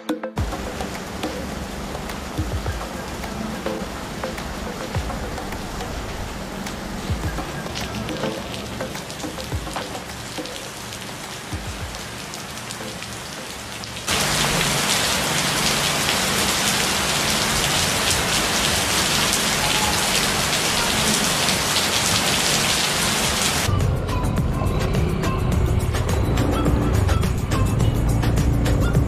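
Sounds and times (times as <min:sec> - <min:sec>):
heavy rain on paving and roofs: 0:00.4 - 0:23.7.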